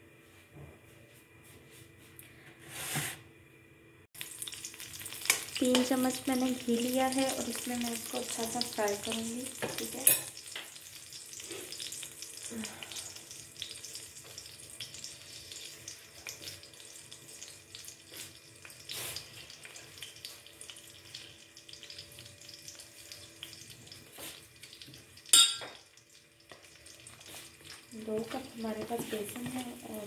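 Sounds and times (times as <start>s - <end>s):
ghee sizzling in a pan: 4.2s - 30.0s.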